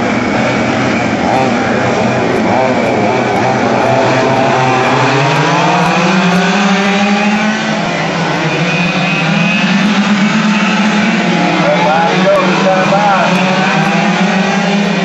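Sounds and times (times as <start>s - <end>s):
model race car engines buzzing: 0.0s - 15.0s.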